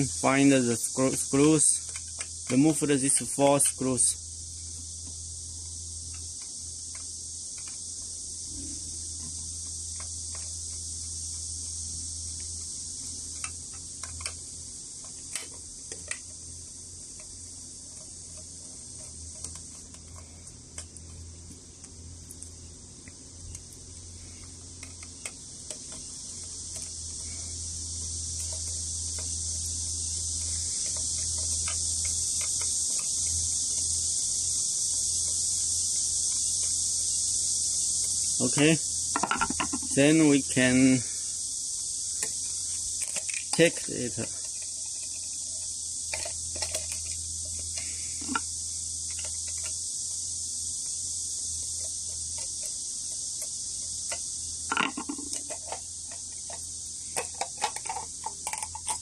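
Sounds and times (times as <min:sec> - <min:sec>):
high-pitched hiss: 0:00.0 - 0:59.0.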